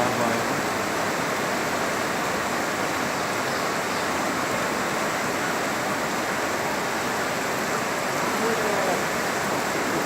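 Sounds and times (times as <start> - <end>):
heavy rain: 0.0 - 10.0
rainwater rushing through street: 0.0 - 10.0.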